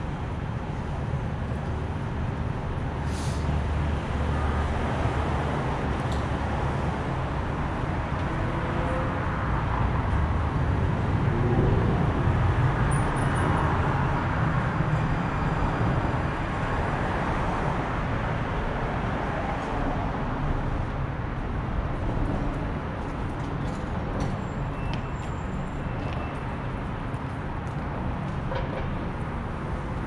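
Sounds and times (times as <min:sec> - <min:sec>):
street traffic noise: 0:00.0 - 0:30.0.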